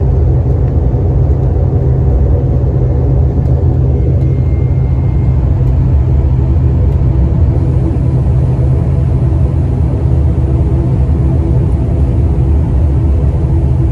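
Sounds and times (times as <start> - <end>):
airliner cabin rumble: 0.0 - 13.9
faint steady hum: 0.0 - 13.9.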